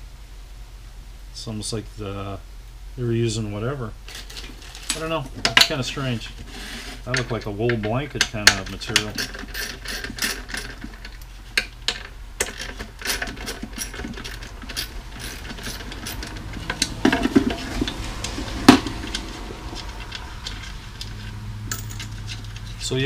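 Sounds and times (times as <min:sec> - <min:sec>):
hands clicking and scraping drum: 0:04.2 - 0:22.8.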